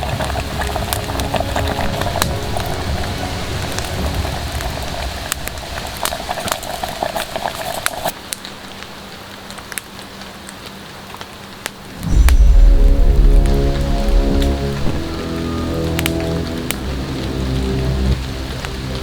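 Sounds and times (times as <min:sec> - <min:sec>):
fire popping and crackling: 0:00.0 - 0:19.0
rain hissing: 0:00.0 - 0:19.0.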